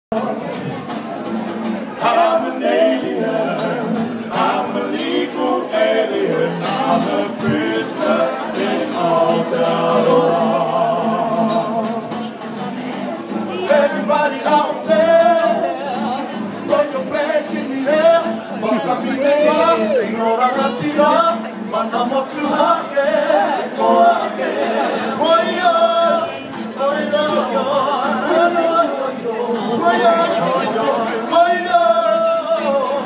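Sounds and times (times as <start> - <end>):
men singing together: 1.9 - 33.0.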